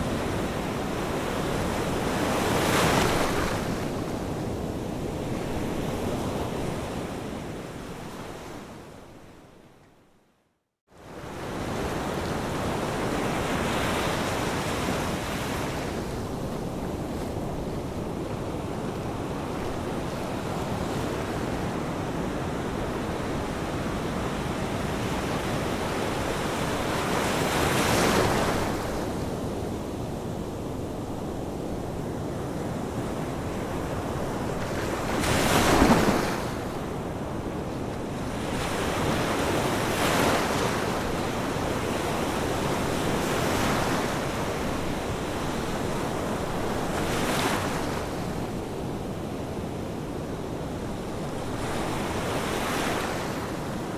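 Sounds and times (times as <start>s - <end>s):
ocean waves breaking on shore: 0.0s - 8.8s, 11.0s - 53.9s.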